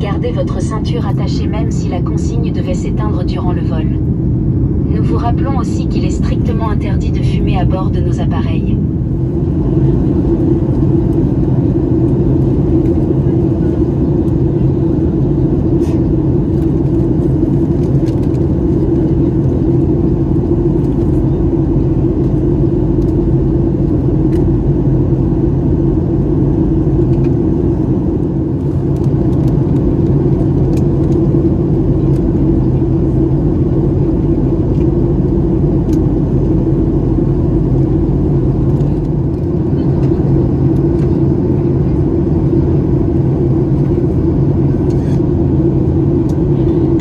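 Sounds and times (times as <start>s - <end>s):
airplane cabin drone: 0.0s - 47.0s.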